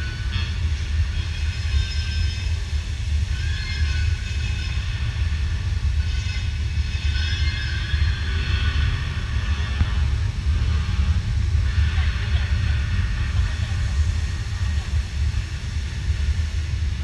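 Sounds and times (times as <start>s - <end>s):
deep rumble over loudspeakers: 0.0s - 17.0s.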